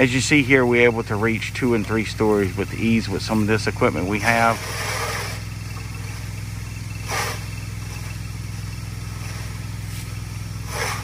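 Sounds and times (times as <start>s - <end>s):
pressure washer engine droning: 0.0s - 11.0s
water stream hissing: 0.0s - 11.0s.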